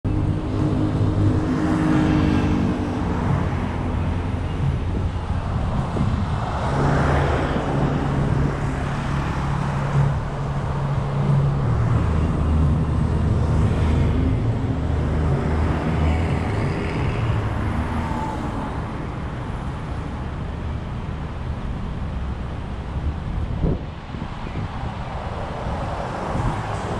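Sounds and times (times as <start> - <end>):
tyre and road noise: 0.0 - 26.9
vehicle engines humming: 0.0 - 26.9.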